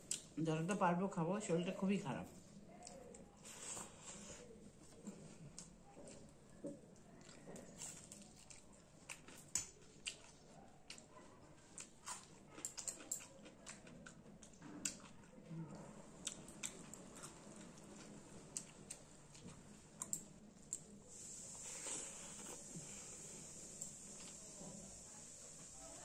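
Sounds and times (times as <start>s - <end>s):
person chewing food: 2.8s - 24.5s.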